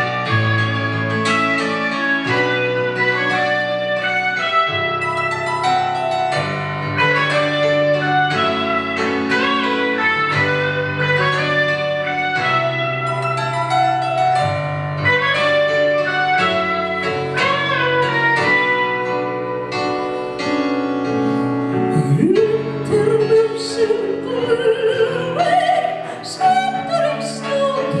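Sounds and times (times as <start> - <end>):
guitar: 0.0 - 28.0
piano: 0.0 - 28.0.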